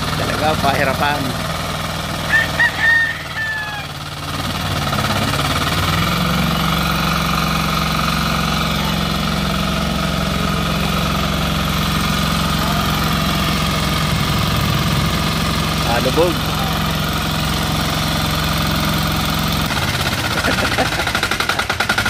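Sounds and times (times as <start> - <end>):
small engine under heavy load: 0.0 - 22.0.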